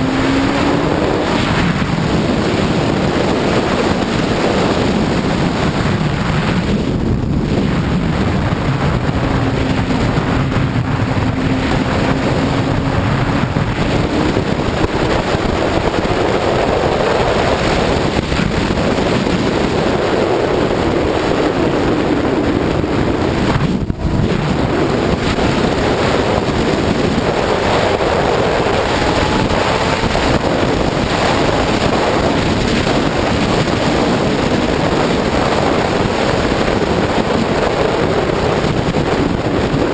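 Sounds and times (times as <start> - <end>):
faint motorcycle engine: 0.0 - 39.9
wind rush over microphone: 0.0 - 39.9.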